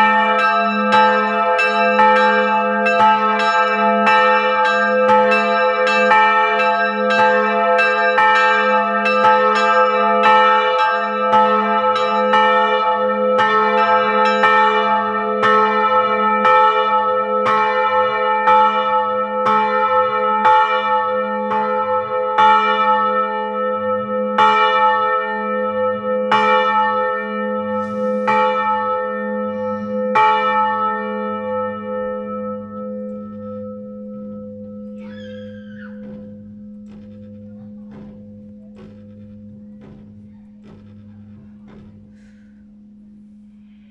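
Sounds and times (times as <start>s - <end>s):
low bell hum: 0.0s - 16.7s, 25.4s - 43.9s
church bells ringing: 0.0s - 43.9s.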